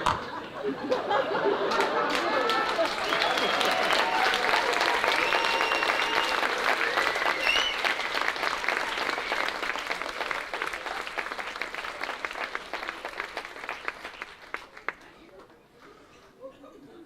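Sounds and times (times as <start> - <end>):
audience applause: 1.0 - 15.2.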